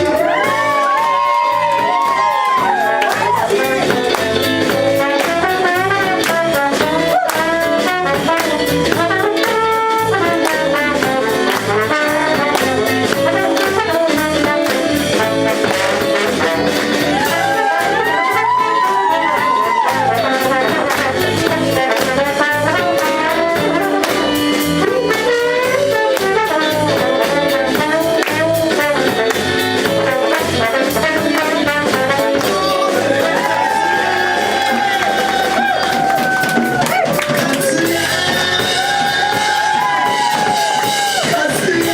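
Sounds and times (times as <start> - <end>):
brass horn melody: 0.0 - 41.9
steady drum beat: 0.0 - 41.9.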